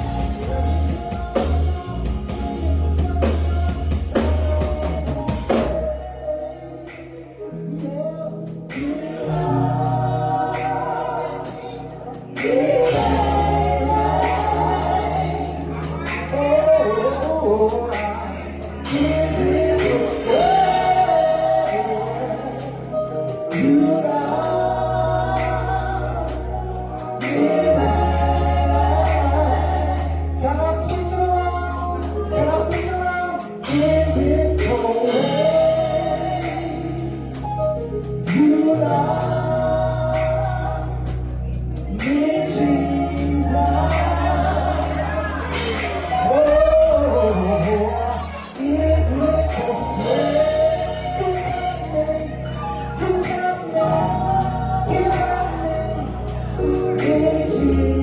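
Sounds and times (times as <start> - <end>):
deep bass notes: 0.0 - 58.0
person singing: 0.0 - 58.0.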